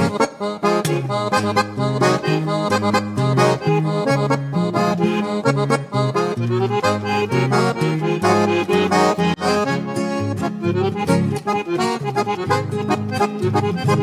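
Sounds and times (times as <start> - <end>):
classical guitar: 0.0 - 14.0
piano accordion melody: 0.0 - 14.0.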